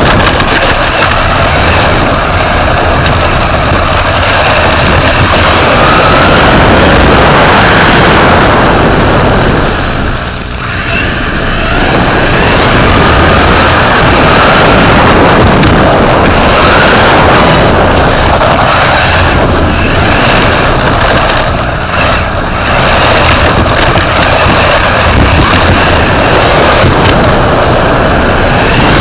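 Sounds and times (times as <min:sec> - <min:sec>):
faint motor whine: 0:00.0 - 0:29.0
wind and road noise: 0:00.0 - 0:29.0.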